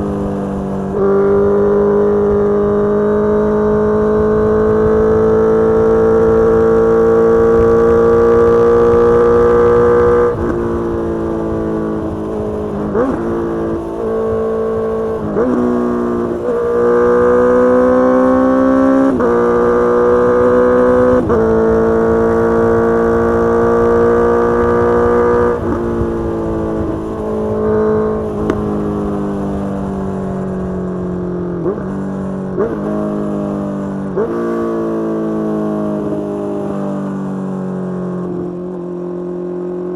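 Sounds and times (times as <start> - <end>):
gear changes: 0.0 - 37.4
motorcycle engine revving: 0.0 - 39.9.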